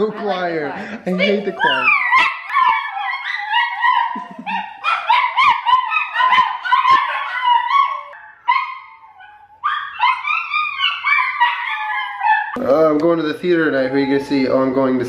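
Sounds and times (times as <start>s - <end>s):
dogs howling and whining: 0.0s - 12.6s, 13.5s - 15.0s.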